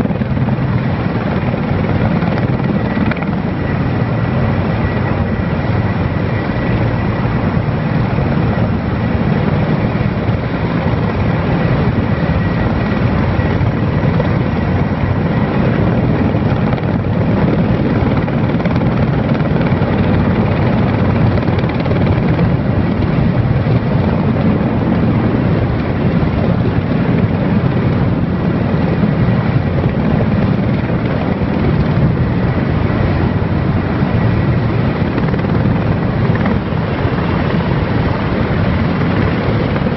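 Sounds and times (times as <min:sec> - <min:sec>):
faint high turbine whine: 0:00.0 - 0:39.9
helicopter rotor roar: 0:00.0 - 0:39.9.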